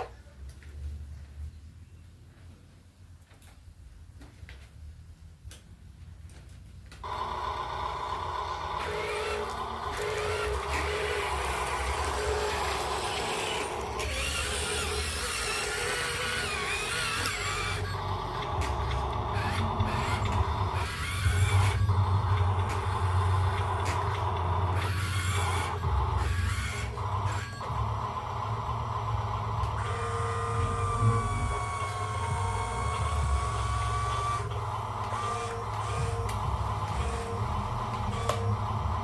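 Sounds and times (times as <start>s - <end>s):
heavy vehicle engine rumbling: 7.0s - 39.0s.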